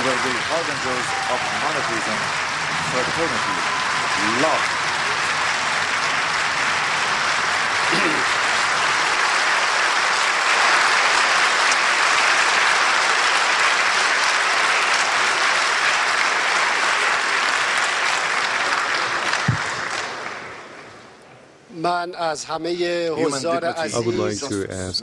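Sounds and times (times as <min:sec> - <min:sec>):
large audience applauding: 0:00.0 - 0:21.0.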